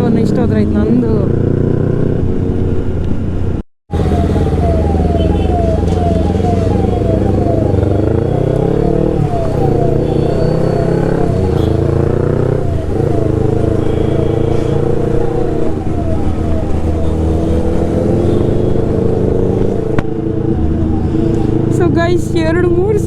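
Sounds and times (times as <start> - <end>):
motorcycle engine with loud exhaust: 0.0 - 21.8.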